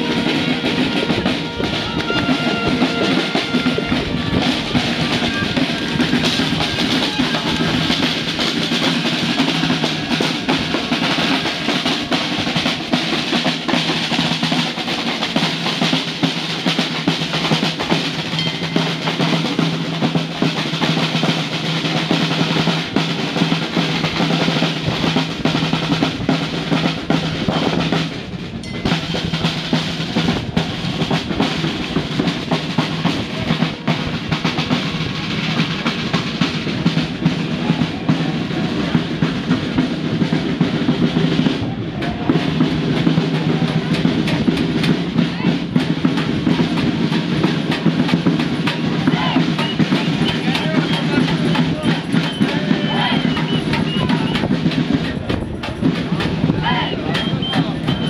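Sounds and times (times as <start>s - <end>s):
marching drums: 0.0s - 58.0s.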